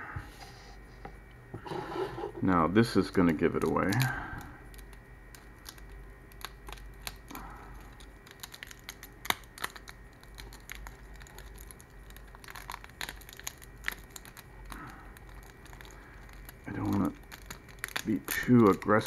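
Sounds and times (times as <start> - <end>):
plastic crinkling and snapping: 2.8 - 19.0.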